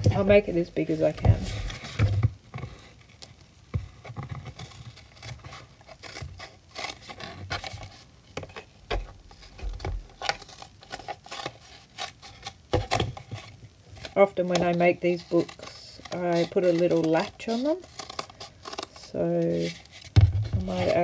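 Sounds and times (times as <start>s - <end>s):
carton crinkling: 4.0s - 21.0s.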